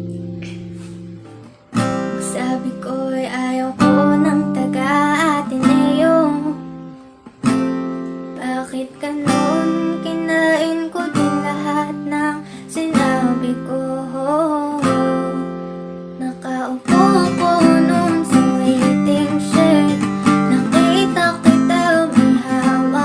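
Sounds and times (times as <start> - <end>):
acoustic guitar strumming: 0.0 - 23.0
person singing: 2.2 - 6.8, 8.3 - 15.6, 16.2 - 23.0.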